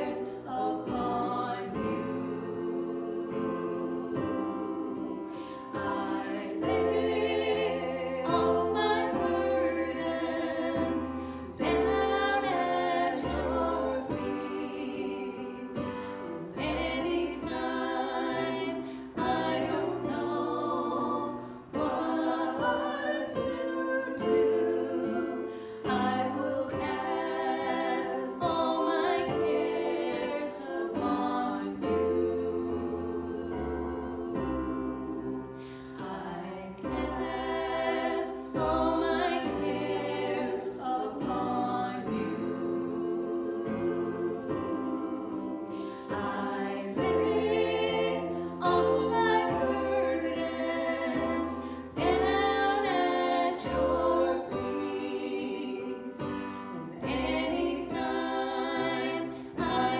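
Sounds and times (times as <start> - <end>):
voices singing worship song: 0.0 - 59.9.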